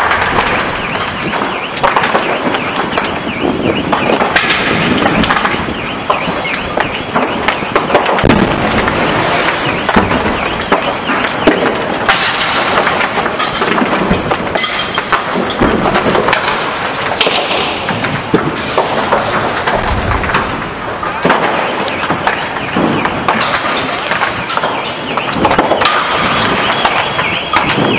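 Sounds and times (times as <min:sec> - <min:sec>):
fire roaring: 0:00.0 - 0:27.9
sharp pops and bangs: 0:00.0 - 0:27.9.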